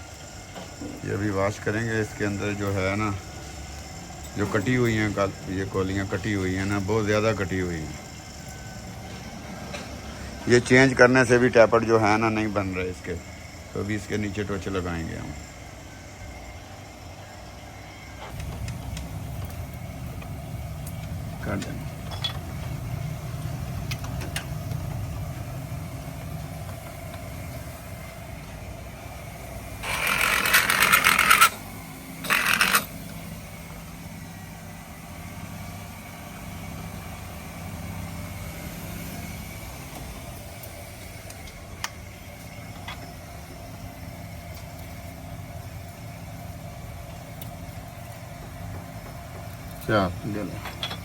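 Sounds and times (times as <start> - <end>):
low workshop hum: 0.0 - 51.0.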